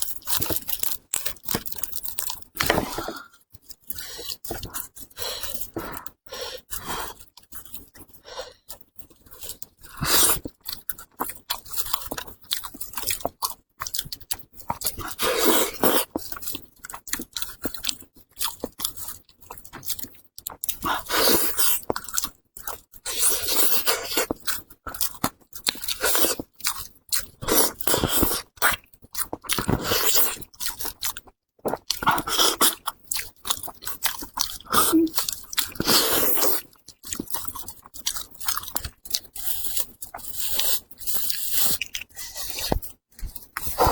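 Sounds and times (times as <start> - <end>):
chewing and crunching meat: 0.0 - 43.9.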